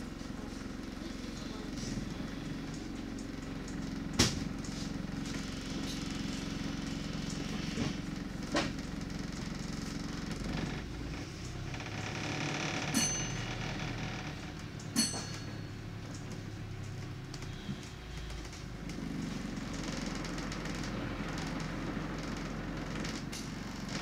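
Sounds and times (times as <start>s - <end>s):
bus engine hum: 0.0s - 12.0s, 14.9s - 24.0s
vehicle rattles and knocks: 2.9s - 24.0s.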